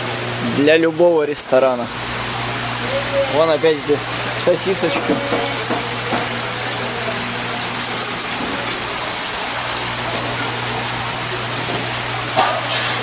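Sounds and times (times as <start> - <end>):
steady low hum: 0.0 - 12.7
water bubbling in tanks: 1.4 - 13.0.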